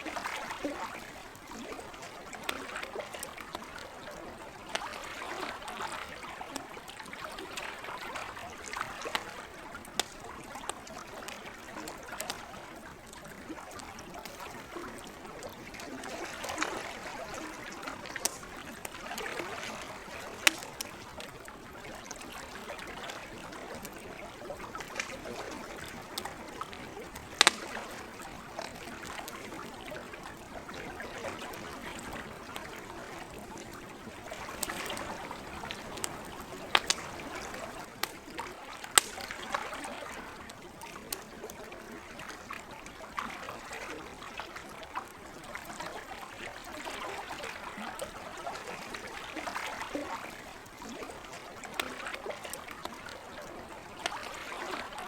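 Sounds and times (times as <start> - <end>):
campfire crackling and popping: 0.0 - 43.0, 47.9 - 55.0
lake water trickling and splashing: 0.0 - 55.0.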